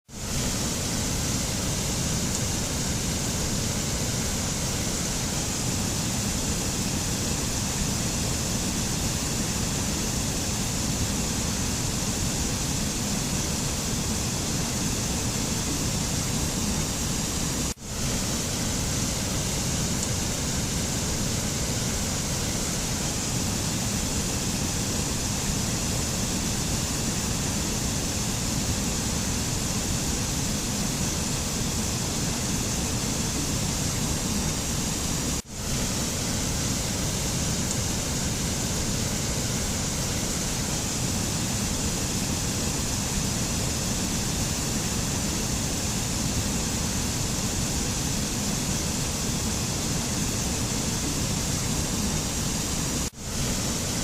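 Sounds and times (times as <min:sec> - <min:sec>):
steady rushing nature ambience: 0:00.0 - 0:54.0.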